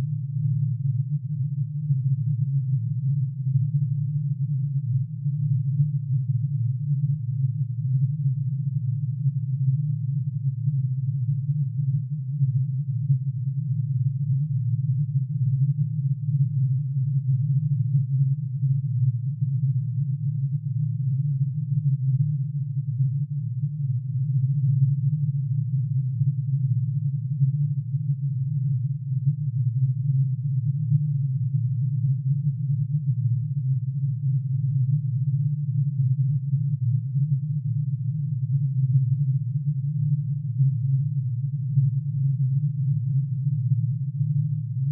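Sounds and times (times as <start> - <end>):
synthesized low hum: 0.0 - 44.9.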